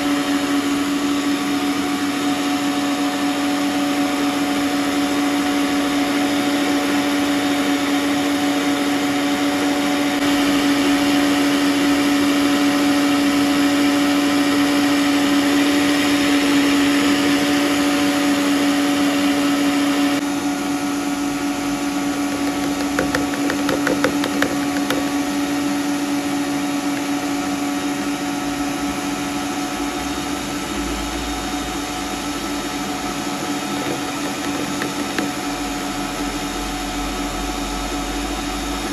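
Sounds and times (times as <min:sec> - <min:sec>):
stand mixer motor humming: 0:00.0 - 0:38.9.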